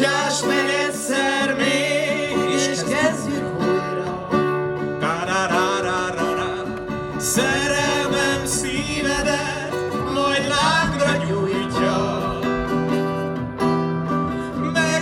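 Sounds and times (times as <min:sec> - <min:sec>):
acoustic guitar and strings: 0:00.0 - 0:15.0
person singing: 0:00.0 - 0:15.0.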